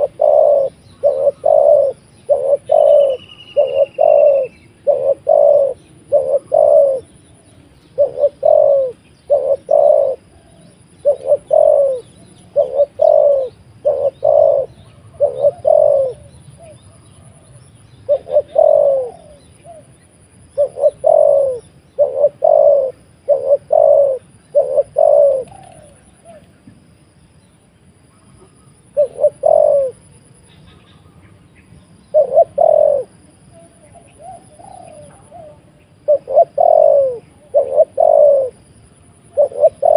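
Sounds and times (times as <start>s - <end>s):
dove cooing: 0.0s - 26.7s, 28.1s - 31.2s, 32.0s - 39.9s.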